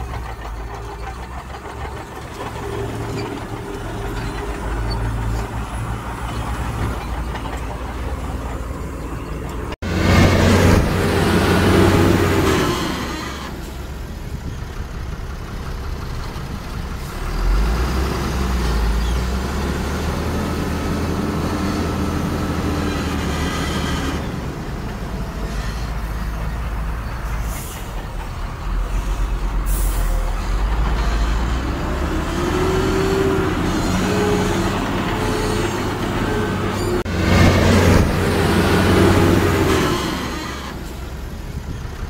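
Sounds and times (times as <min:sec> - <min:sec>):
heavy diesel machinery running: 0:00.0 - 0:42.0.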